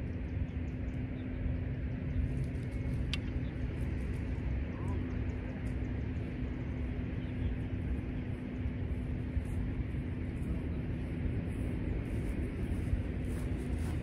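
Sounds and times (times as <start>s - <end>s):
constant low hum: 0.0s - 14.0s
low outdoor rumble: 0.0s - 14.0s.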